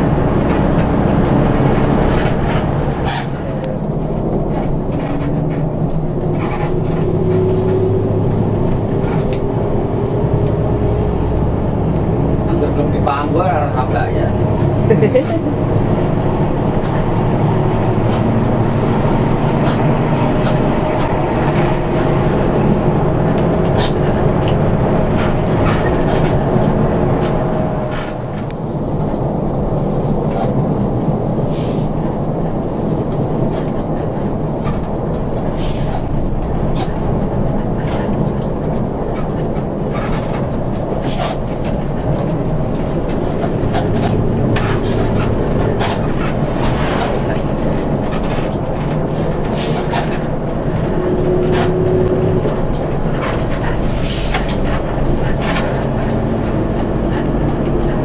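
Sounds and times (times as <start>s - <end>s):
bus engine drone: 0.0s - 58.0s
road noise: 0.0s - 58.0s.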